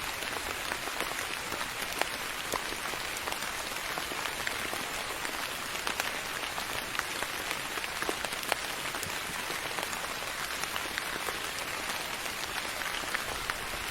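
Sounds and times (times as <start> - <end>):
rain pattering: 0.0 - 13.9.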